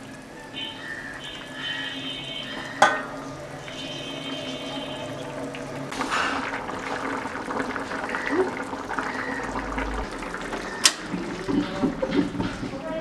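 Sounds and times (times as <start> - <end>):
curry bubbling in pan: 0.0 - 13.0.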